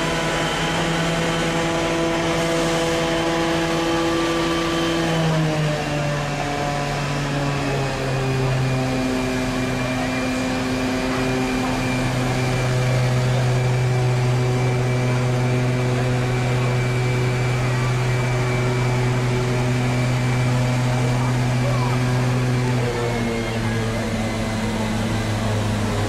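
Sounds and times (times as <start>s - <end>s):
pump droning hum: 0.0s - 26.0s.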